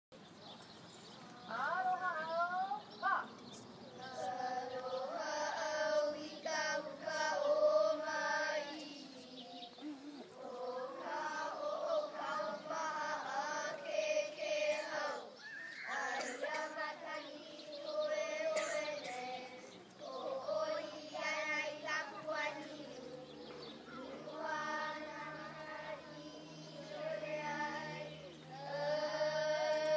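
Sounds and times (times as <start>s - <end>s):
children singing in unison: 3.9s - 29.9s.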